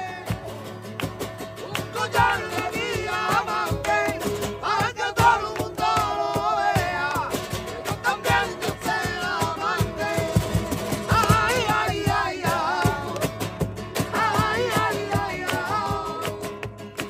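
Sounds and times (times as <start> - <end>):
guitar: 0.0 - 17.0
steady beat: 2.1 - 16.0.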